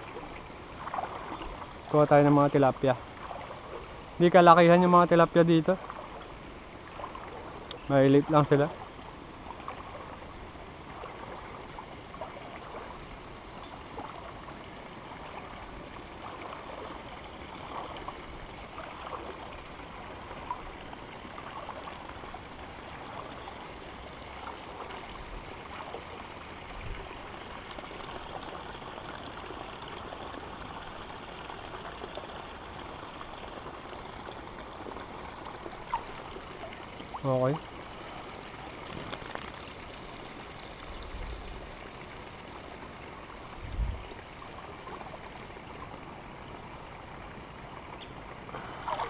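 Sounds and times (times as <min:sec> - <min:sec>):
light water splashes: 0:00.0 - 0:49.0
river water flowing and gurgling: 0:00.0 - 0:49.0.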